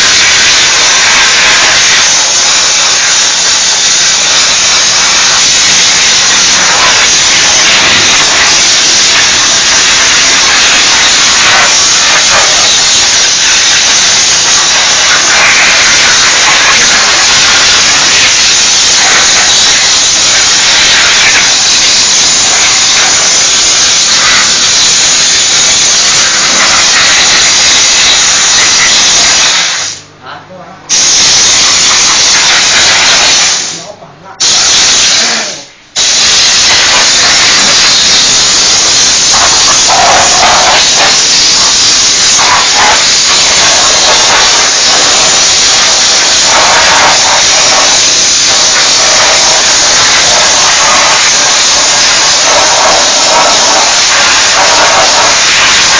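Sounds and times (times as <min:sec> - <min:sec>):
steam cleaner nozzle hissing: 0:00.0 - 0:30.1, 0:30.9 - 0:33.8, 0:34.4 - 0:55.9.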